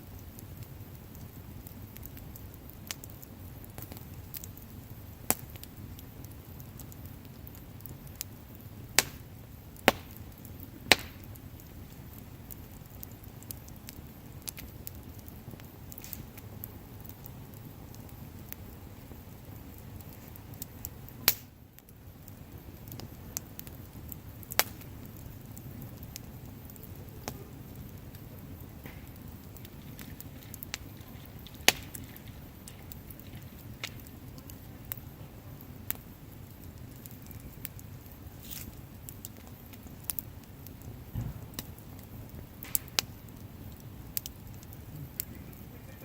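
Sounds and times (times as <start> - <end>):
bonfire flames rushing: 0.0 - 46.0
fire crackling and popping: 0.0 - 46.0.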